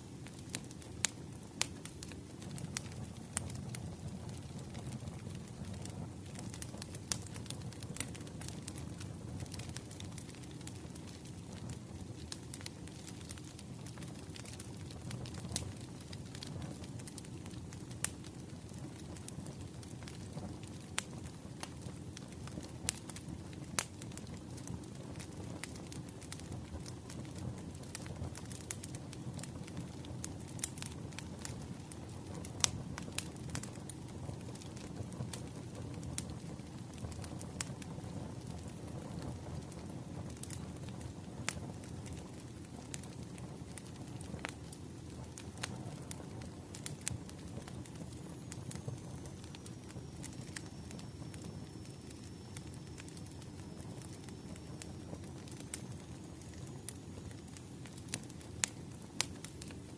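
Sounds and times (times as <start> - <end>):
wood fire crackling: 0.0 - 59.9
sharp fire pops: 0.2 - 59.9.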